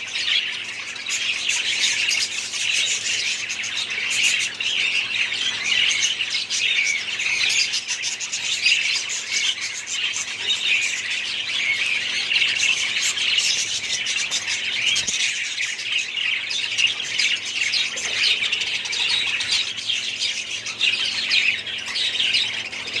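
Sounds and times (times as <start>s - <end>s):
budgies chirping: 0.0s - 23.0s.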